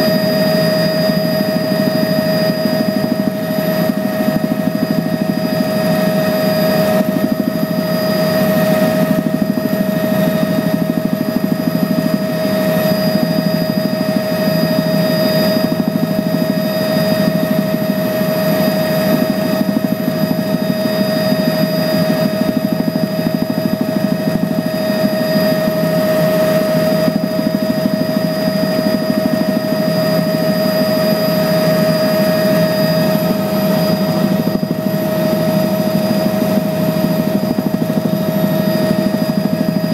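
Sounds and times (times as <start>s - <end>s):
aircraft cabin engine whine: 0.0s - 39.9s.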